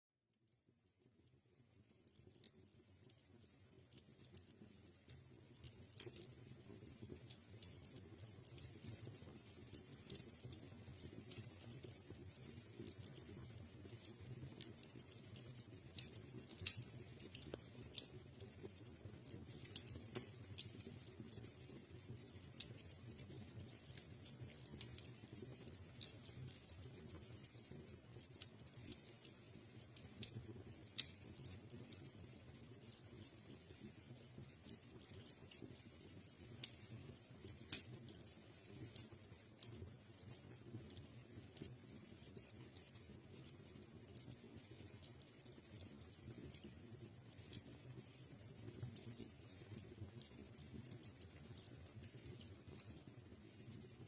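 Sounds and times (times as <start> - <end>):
fire crackling and popping: 0.8 - 54.0
fire rumbling: 4.2 - 48.2, 48.9 - 53.0.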